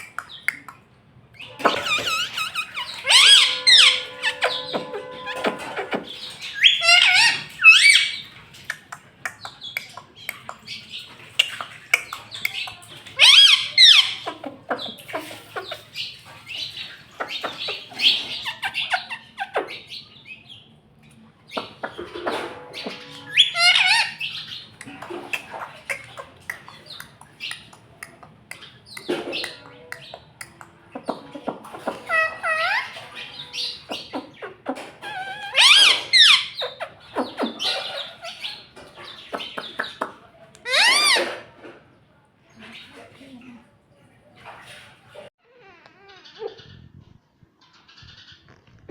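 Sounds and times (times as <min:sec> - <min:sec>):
parakeet chattering and chirping: 0:00.0 - 0:00.8, 0:01.4 - 0:20.6, 0:21.5 - 0:41.4.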